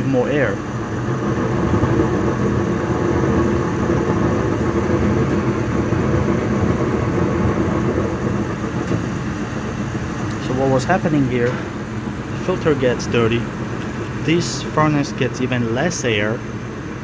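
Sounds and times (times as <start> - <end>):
gas furnace flame and blower: 0.0 - 17.0
low hum: 0.0 - 17.0.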